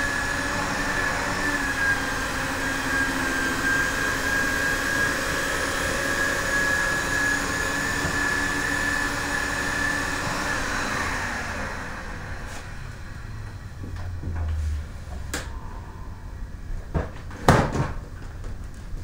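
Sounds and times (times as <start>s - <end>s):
vacuum cleaner motor whining: 0.0s - 16.2s.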